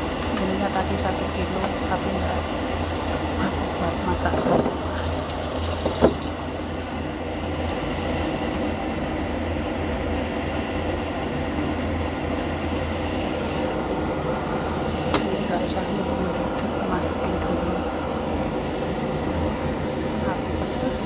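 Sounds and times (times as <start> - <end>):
low mechanical hum with hiss: 0.0 - 21.0.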